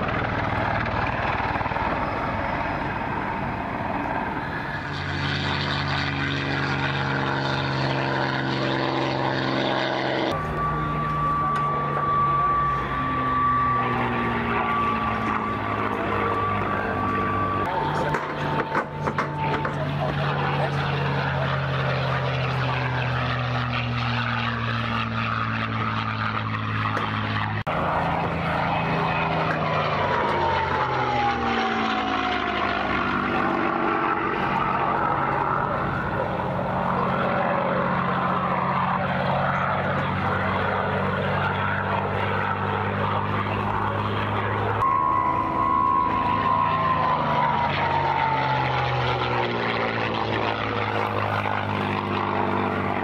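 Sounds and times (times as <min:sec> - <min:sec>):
propeller aircraft engine passing: 0:00.0 - 0:53.0.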